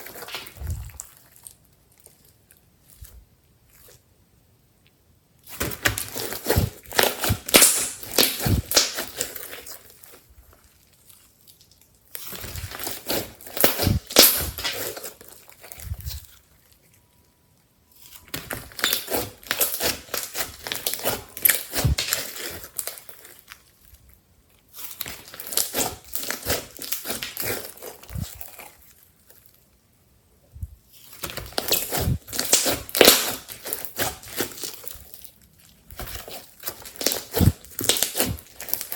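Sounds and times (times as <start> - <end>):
slime crackling and popping: 0.0 - 3.1, 5.4 - 16.8, 17.9 - 29.6, 30.9 - 38.9.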